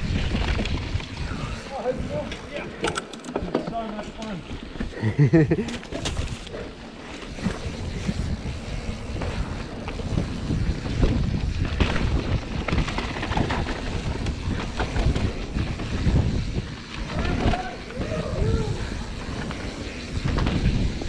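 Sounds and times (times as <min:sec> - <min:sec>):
bike clicks and rattles: 0:00.0 - 0:21.0
tyres rumbling on dirt: 0:00.0 - 0:21.0
wind buffeting microphone: 0:00.0 - 0:21.0.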